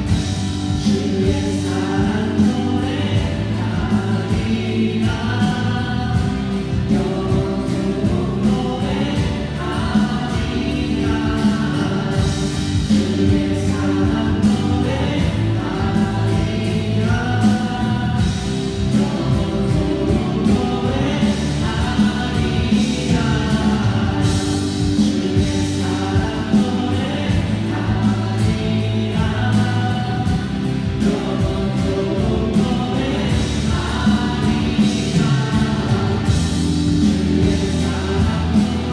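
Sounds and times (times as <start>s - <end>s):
choir singing worship song: 0.0s - 38.9s.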